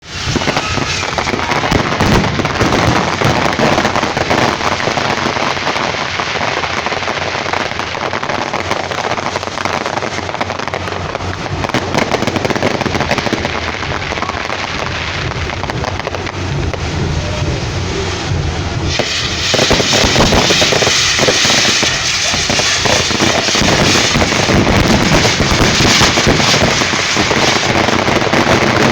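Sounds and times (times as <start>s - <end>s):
fireworks crackling and banging: 0.0s - 28.9s.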